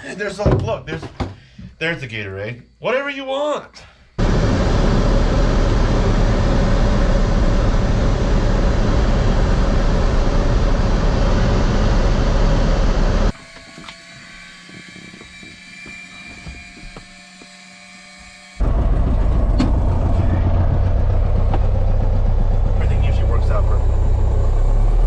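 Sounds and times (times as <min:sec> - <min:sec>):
light aircraft engine and propeller: 0:04.2 - 0:25.0.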